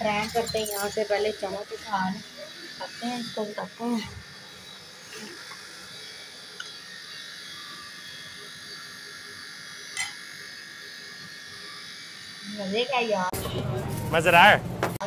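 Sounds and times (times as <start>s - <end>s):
high-pitched electrical buzz: 0.0s - 15.0s.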